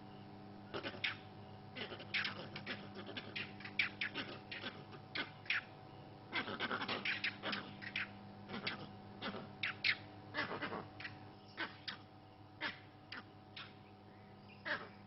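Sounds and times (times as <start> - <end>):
monkeys alarm calling: 0.7 - 5.7, 6.3 - 13.8, 14.5 - 15.0.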